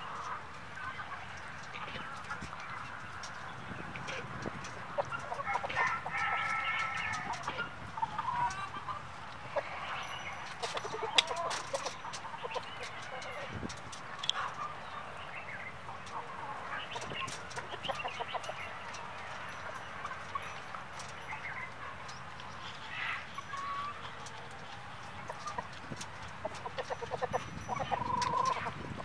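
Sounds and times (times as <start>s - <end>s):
hens clucking: 0.0s - 29.0s.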